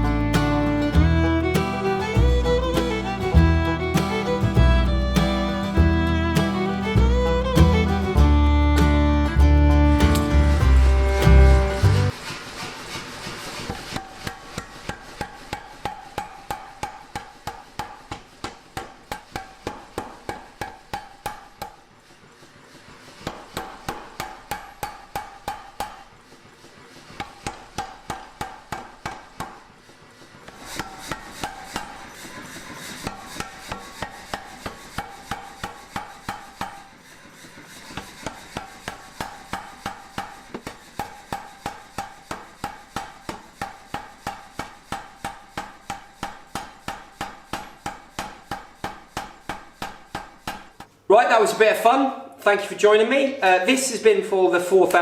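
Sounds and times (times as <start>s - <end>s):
hammer blows on hot steel: 0.0s - 50.9s.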